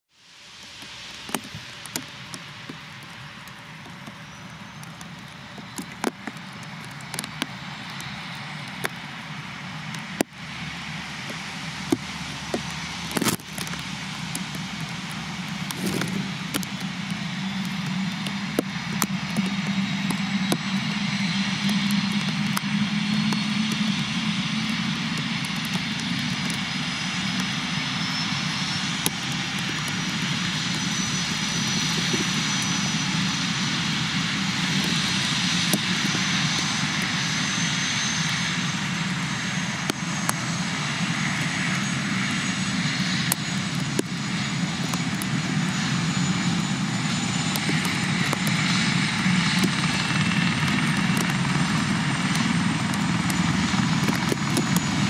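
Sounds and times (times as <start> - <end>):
helicopter turbine whine rising: 0.2 - 55.0.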